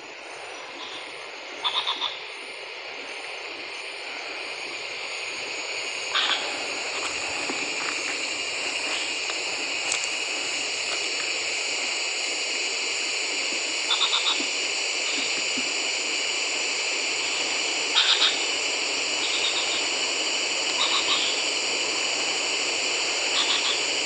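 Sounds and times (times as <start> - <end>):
wind and rain through trees: 0.0 - 24.0.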